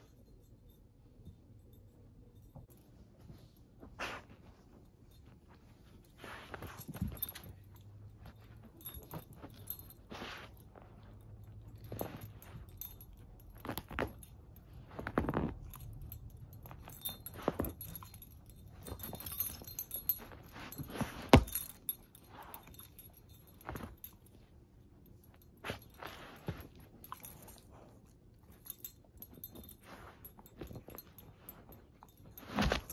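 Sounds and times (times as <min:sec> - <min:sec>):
collar tags jingling: 0:00.0 - 0:32.9.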